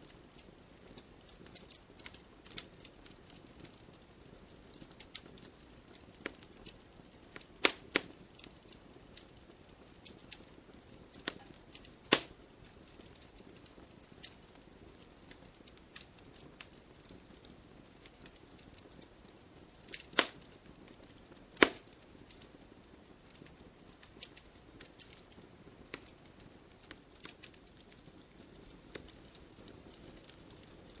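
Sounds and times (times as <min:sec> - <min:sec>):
campfire crackling and popping: 0:00.0 - 0:31.0
faint steady hiss: 0:00.0 - 0:31.0.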